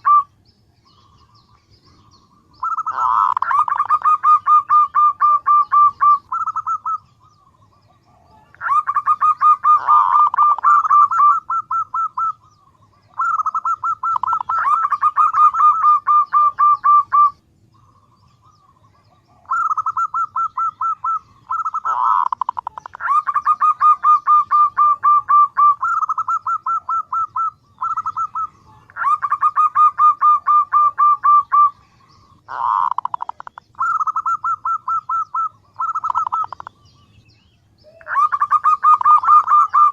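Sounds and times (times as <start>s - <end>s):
dove calling: 0.0s - 39.9s.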